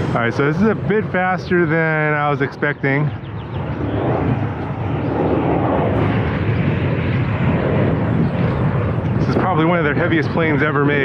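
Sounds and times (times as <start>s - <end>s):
model plane ducted fans rushing: 0.0s - 11.0s.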